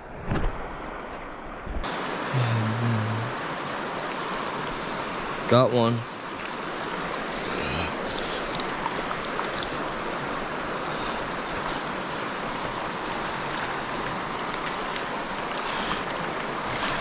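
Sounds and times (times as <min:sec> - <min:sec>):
river current rushing: 0:01.8 - 0:17.0.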